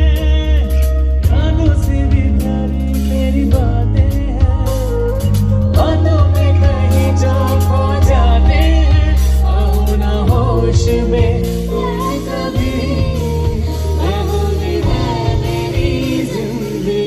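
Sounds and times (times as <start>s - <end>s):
bass line: 0.0s - 17.0s
guitar: 0.0s - 17.0s
person singing: 0.0s - 17.0s.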